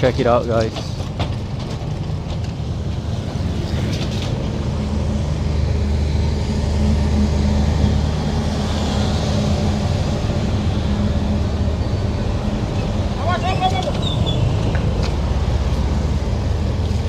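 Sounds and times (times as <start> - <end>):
road noise: 0.0 - 17.0
vehicle engine running: 2.8 - 17.0.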